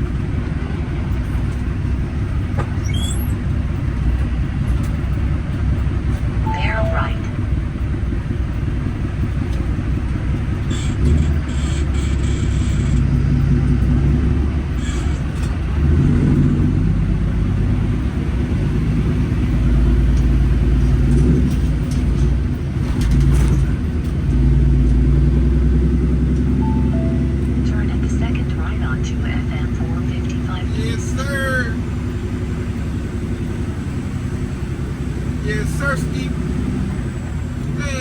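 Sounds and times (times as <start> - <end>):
diesel truck engine rumbling: 0.0 - 38.0.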